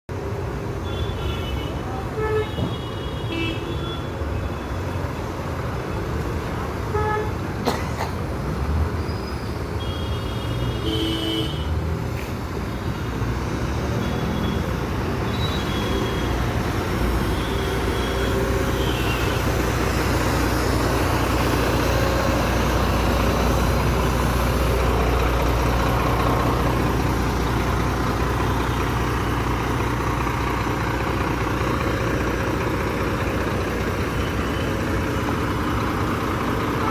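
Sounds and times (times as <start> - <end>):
bus diesel engine drone: 0.1 - 36.9
traffic noise: 0.1 - 36.9.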